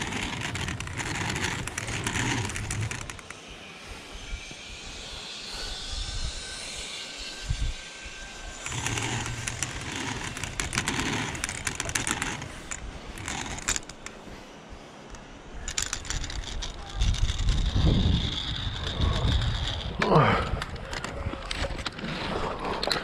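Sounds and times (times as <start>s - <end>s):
zipline trolley whirring on cable: 0.0s - 23.0s.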